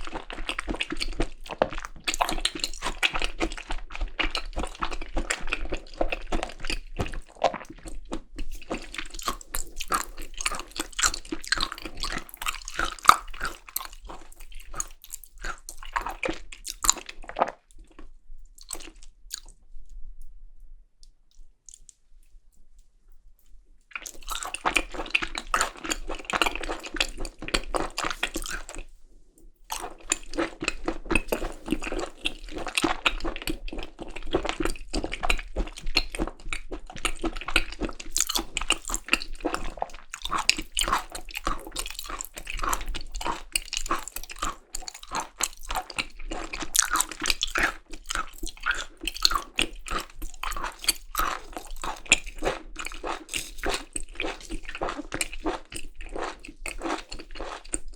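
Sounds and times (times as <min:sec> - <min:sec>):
person chewing wetly: 0:00.0 - 0:19.6, 0:23.8 - 0:29.0, 0:29.6 - 0:57.9.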